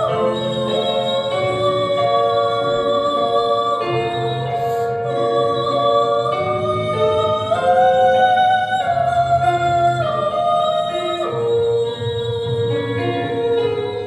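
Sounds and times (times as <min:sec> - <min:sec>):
instrumental accompaniment: 0:00.0 - 0:14.0
woman singing: 0:00.0 - 0:14.0.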